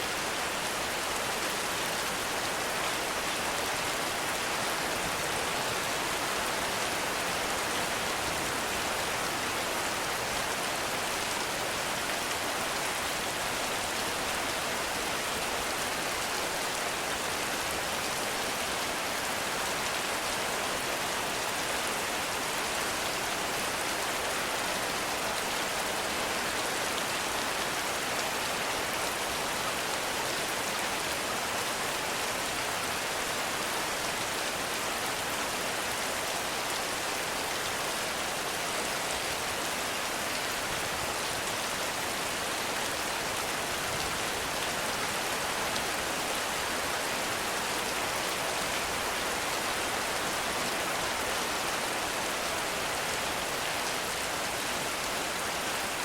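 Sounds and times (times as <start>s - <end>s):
heavy rain in forest: 0.0s - 56.0s.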